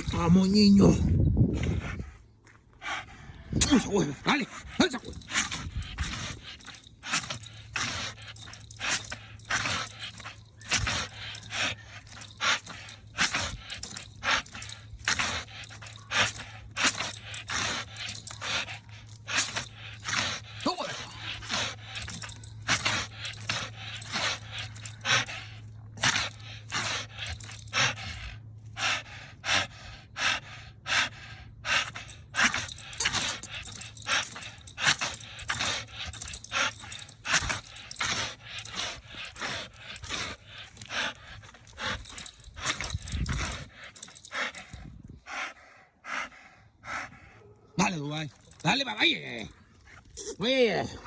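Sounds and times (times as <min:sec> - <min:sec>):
dog panting hard: 0:01.6 - 0:50.2.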